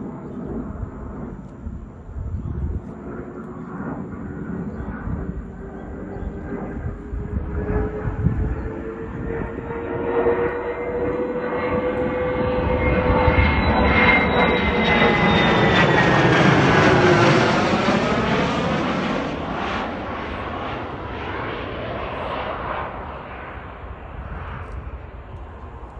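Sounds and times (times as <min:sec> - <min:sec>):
jet flying past overhead: 0:00.0 - 0:25.9.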